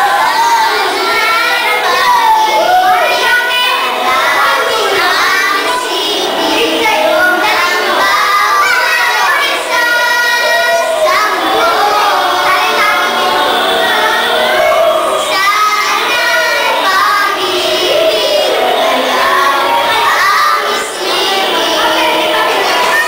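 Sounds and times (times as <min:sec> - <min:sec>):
girls singing together: 0:00.0 - 0:23.0.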